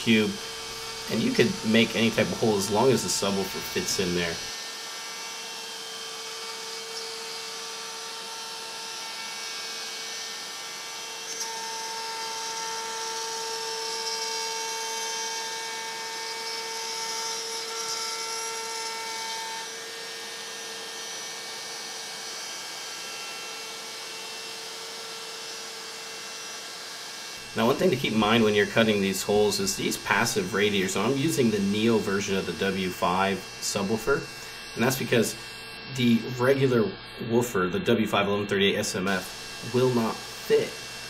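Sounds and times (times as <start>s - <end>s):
router spindle cutting plywood: 0.0s - 41.0s.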